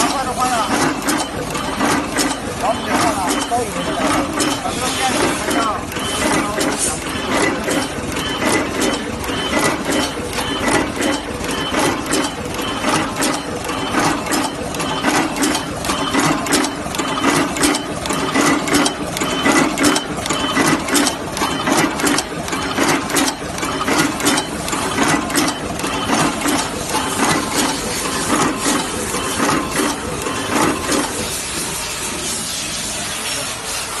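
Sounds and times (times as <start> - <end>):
crimping machine clatter: 0.0 - 31.7
machine hum: 0.0 - 33.3.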